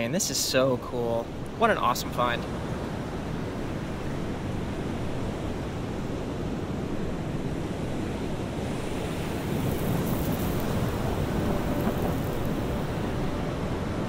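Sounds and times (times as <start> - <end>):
surf washing on beach: 0.3 - 14.0
wind buffeting microphone: 2.5 - 14.0.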